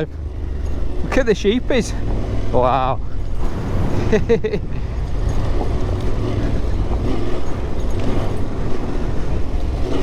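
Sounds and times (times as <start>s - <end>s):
motorcycle engine rumbling: 0.0s - 10.0s
wind noise on microphone: 0.0s - 10.0s.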